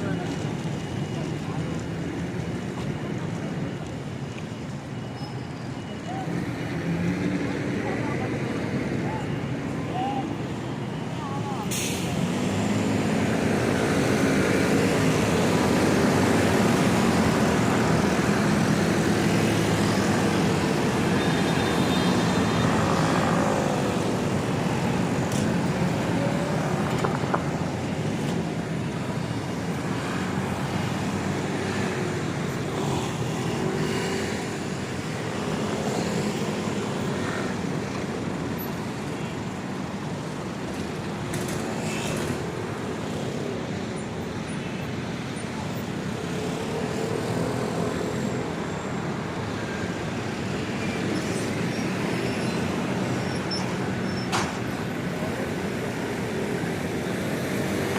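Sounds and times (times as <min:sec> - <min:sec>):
street traffic passing: 0:00.0 - 0:57.9.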